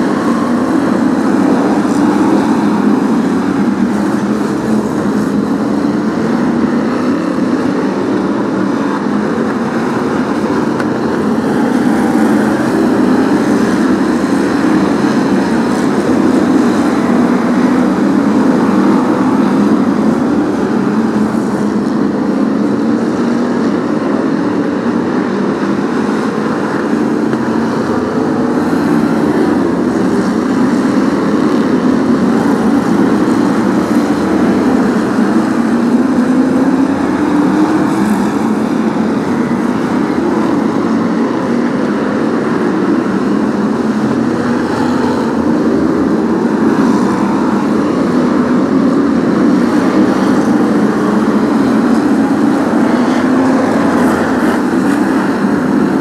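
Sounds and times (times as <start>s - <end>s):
racing car engines: 0.0s - 56.0s.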